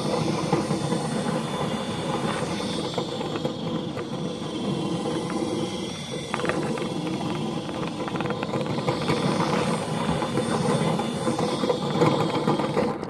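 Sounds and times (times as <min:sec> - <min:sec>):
rushing air in vent: 0:00.0 - 0:13.0.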